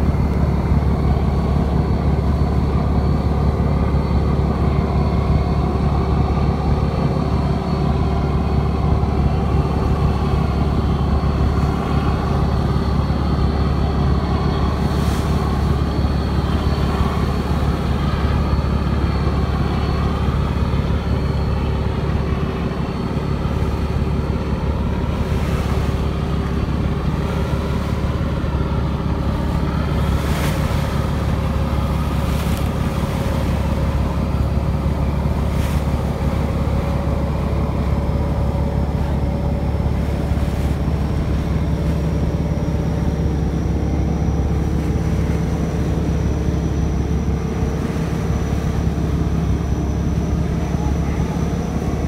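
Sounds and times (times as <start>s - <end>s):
boat engine droning: 0.0s - 52.0s
water rushing past hull: 0.0s - 52.0s.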